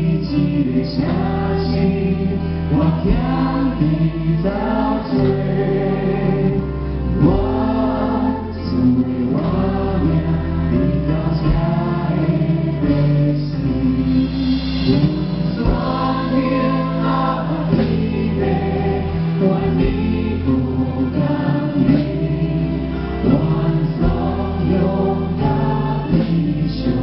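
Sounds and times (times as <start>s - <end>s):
mass choir singing hymn: 0.0s - 27.0s.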